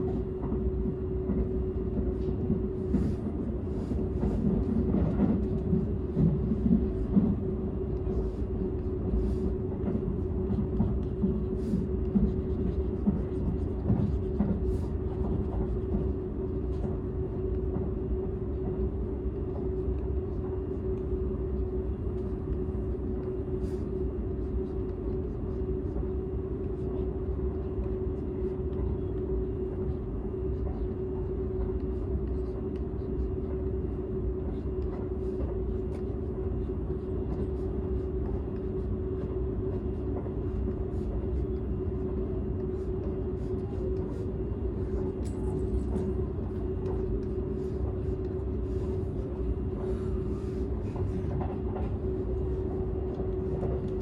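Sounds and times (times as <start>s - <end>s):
train rumble inside cabin: 0.0s - 54.0s.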